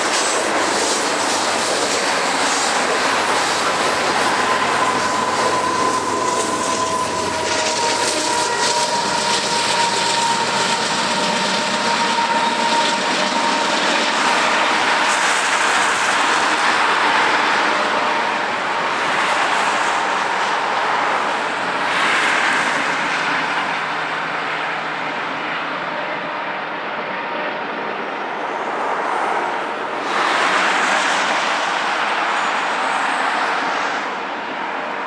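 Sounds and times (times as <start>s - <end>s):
diesel locomotive engine running: 0.0s - 34.9s
train wheels on rails: 0.0s - 35.0s.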